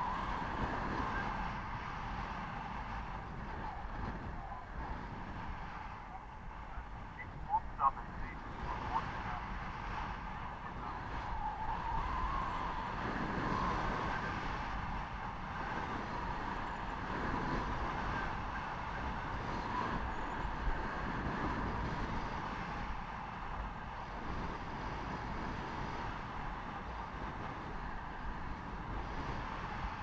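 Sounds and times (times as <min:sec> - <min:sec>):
wind on microphone: 0:00.0 - 0:30.0.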